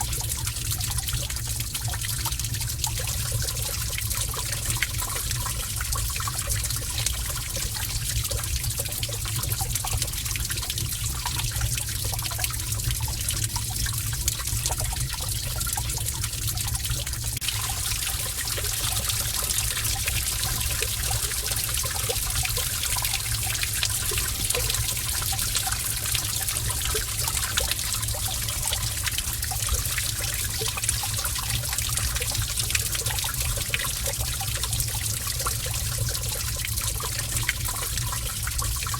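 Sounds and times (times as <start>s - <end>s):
small water drips: 0.0s - 38.9s
water trickling: 0.0s - 38.9s.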